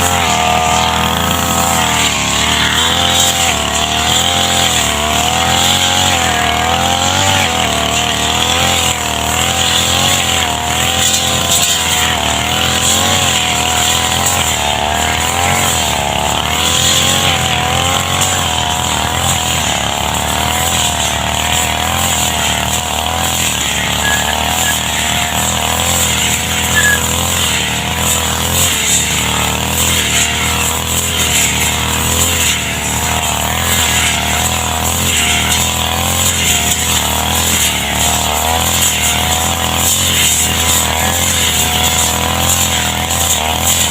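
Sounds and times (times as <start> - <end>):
brush cutter engine at high revs: 0.0 - 43.9.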